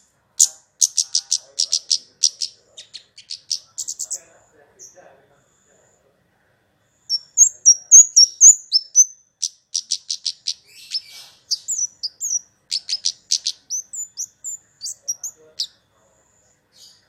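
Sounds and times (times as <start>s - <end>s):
songbird chirping and trilling: 0.0s - 5.0s, 7.0s - 17.0s.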